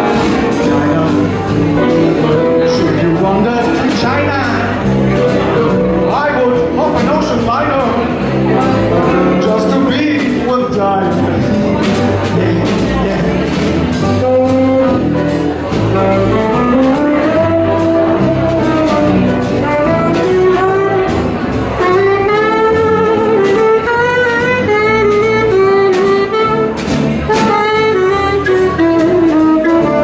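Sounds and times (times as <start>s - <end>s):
saxophone melody: 0.0s - 30.0s
swing band playing: 0.0s - 30.0s.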